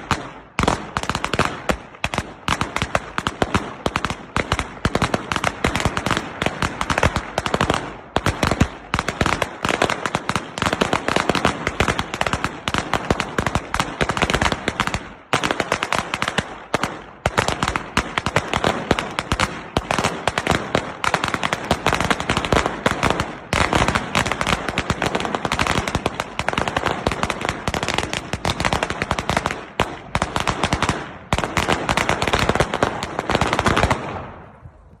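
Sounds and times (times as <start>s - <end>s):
firecrackers banging: 0.0s - 35.0s.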